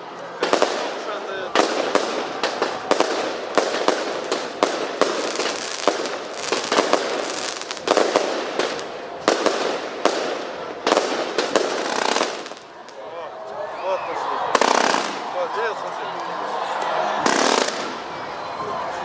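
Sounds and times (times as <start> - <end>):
fireworks crackling and banging: 0.0 - 13.0, 14.5 - 15.6, 17.2 - 18.5.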